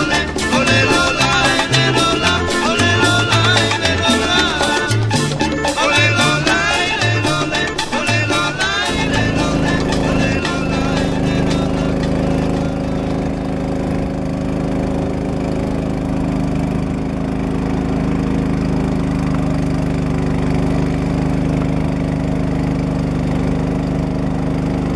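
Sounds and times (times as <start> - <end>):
outboard motor running: 0.0 - 24.9.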